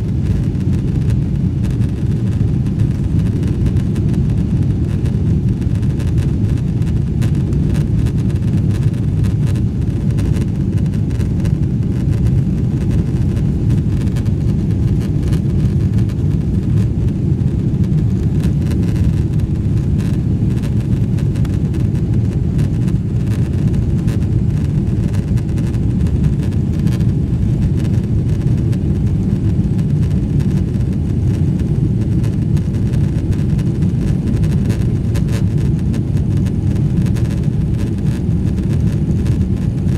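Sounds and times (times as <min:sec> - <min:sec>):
airliner cabin low rumble: 0:00.0 - 0:39.9.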